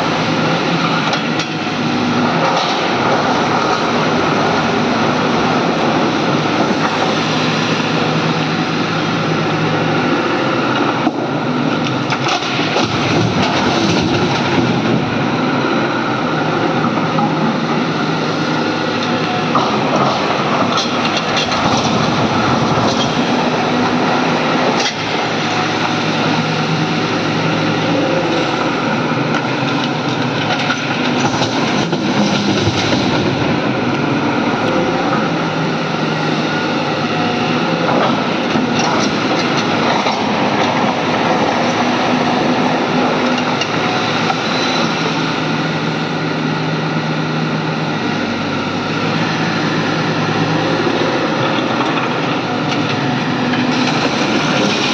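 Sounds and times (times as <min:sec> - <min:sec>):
excavator diesel engines running: 0:00.0 - 0:54.9.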